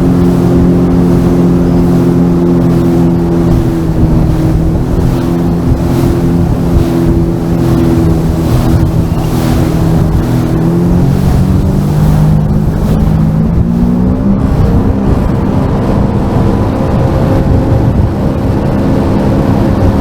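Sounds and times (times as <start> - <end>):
watercraft engine running: 0.0 - 20.0
wind rumble on microphone: 0.0 - 20.0.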